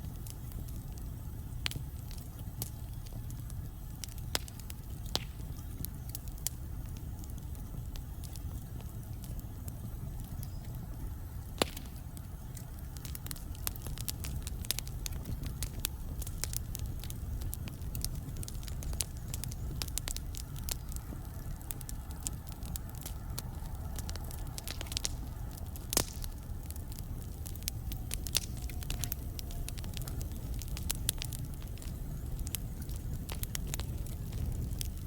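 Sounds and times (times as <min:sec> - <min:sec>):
fire flames rumbling: 0:00.0 - 0:35.0
logs crackling and popping: 0:00.0 - 0:35.0.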